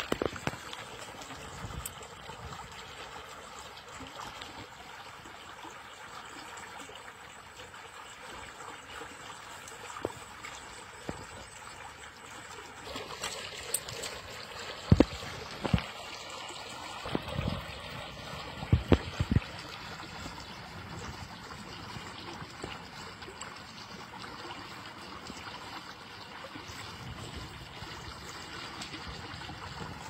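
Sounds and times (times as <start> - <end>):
water running and splashing: 0.0 - 30.0.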